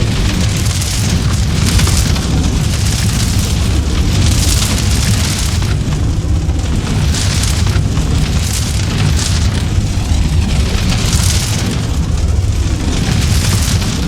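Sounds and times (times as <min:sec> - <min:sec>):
log fire crackling and hissing: 0:00.0 - 0:14.0.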